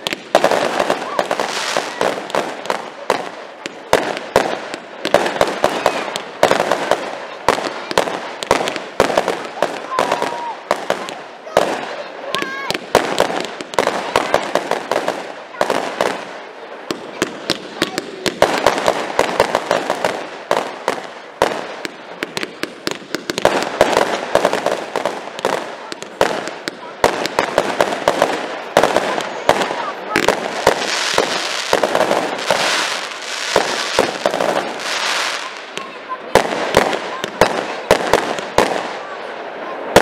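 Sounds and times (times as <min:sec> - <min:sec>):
fireworks bangs: 0:00.0 - 0:40.0
fireworks crackling hiss: 0:00.0 - 0:40.0.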